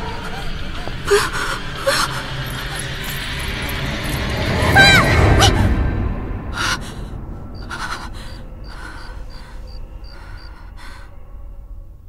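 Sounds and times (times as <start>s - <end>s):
cricket chirping: 0.0s - 4.5s, 6.6s - 11.8s.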